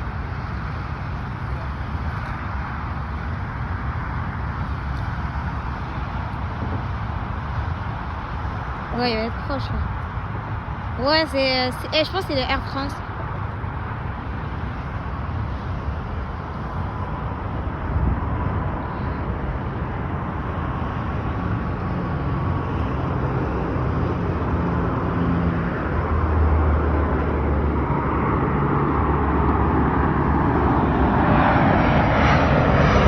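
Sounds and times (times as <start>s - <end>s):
jet airliner engine noise: 0.0s - 33.0s.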